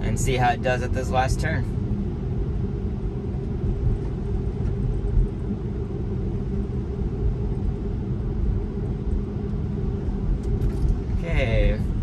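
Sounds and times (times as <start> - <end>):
tyre and road noise drone: 0.0 - 12.0.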